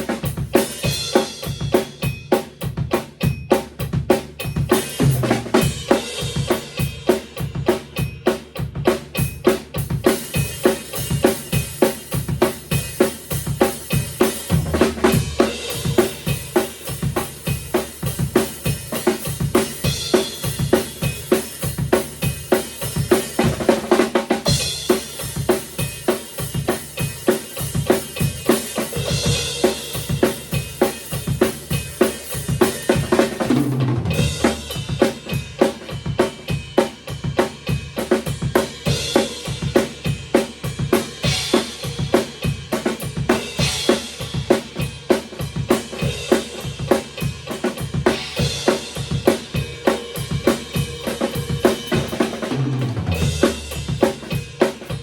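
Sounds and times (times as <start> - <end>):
rock drum beat: 0.0 - 55.0.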